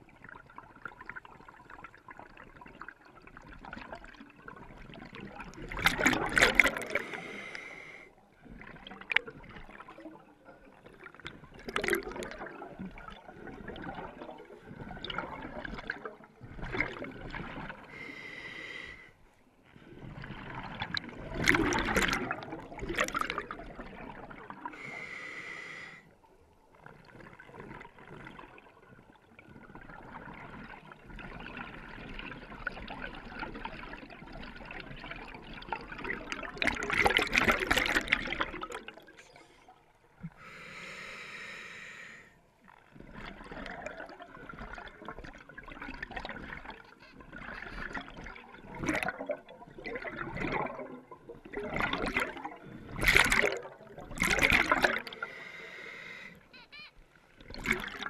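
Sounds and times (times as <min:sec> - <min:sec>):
bubbles rushing and gurgling: 0:00.0 - 0:18.2, 0:19.7 - 0:25.1, 0:26.8 - 0:40.5, 0:42.6 - 0:55.6, 0:57.3 - 0:58.0.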